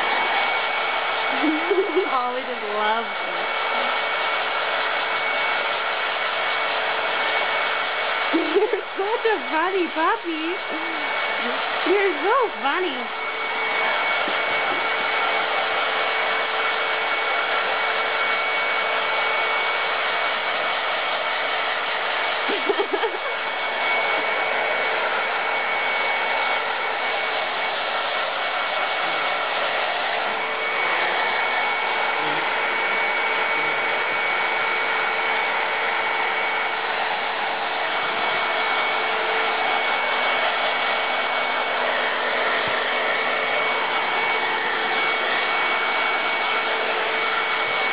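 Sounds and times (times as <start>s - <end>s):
hair dryer blowing air: 0.0s - 47.9s.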